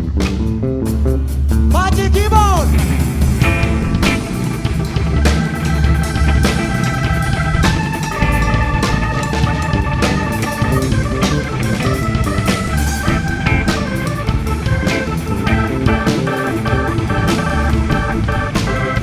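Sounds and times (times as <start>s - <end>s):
bass: 0.0s - 19.0s
drum kit beat: 0.0s - 19.0s
organ-toned keyboard: 0.0s - 19.0s.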